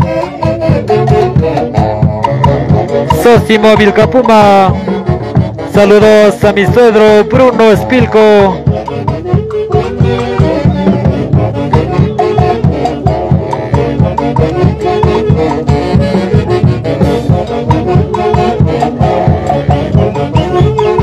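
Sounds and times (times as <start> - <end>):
latin dance music with brass: 0.0 - 21.0.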